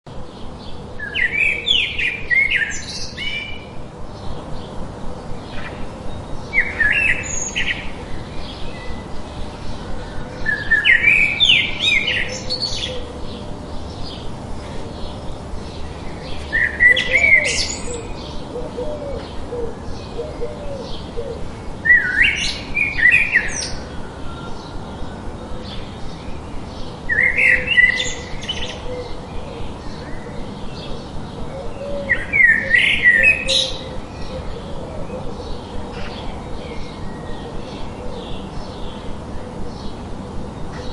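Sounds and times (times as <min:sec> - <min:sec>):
songbird singing: 0:00.1 - 0:40.9
steady white-noise hiss: 0:00.1 - 0:40.9.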